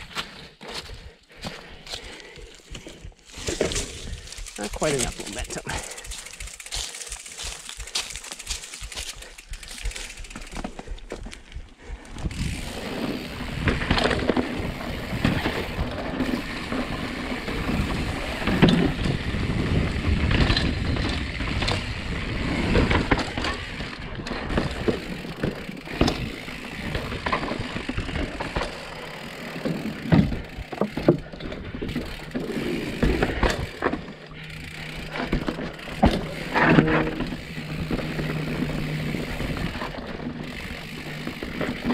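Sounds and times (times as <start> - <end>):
bike tyres rumbling on rock: 0.0 - 41.9
bike chain and frame rattling: 0.1 - 41.9.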